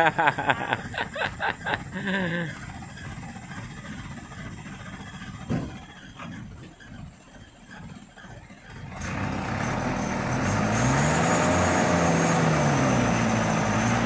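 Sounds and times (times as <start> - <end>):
truck engine at low revs: 0.0 - 14.0.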